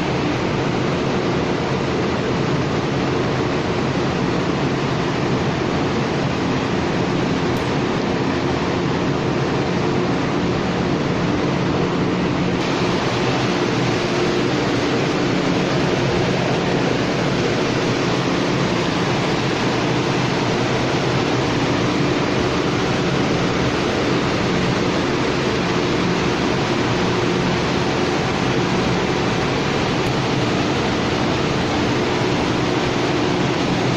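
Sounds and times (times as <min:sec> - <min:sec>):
industrial machine running: 0:00.0 - 0:33.9.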